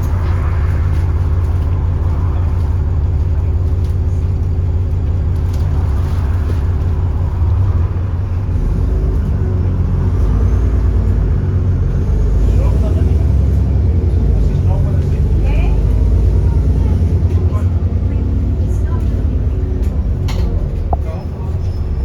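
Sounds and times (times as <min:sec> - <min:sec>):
bus diesel engine drone: 0:00.0 - 0:22.0.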